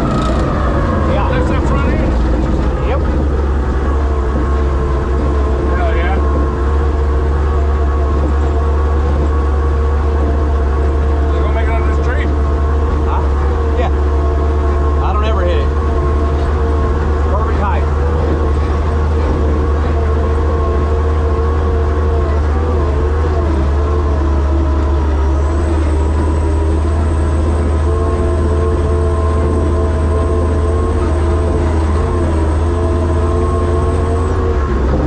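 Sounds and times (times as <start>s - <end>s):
drivetrain whine: 0.0s - 35.0s
truck engine drone: 0.0s - 35.0s.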